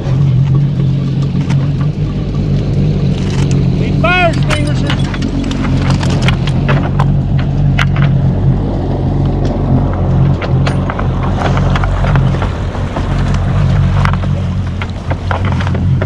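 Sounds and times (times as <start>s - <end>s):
boat engine running: 0.0s - 16.0s
sharp crackles and clicks: 0.0s - 16.0s.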